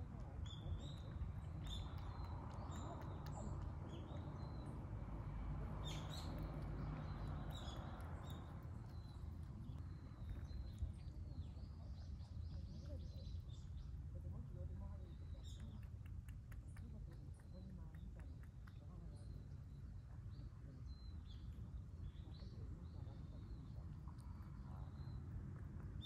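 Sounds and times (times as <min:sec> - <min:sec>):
low background rumble: 0:00.0 - 0:26.0
small birds chirping: 0:00.0 - 0:26.0.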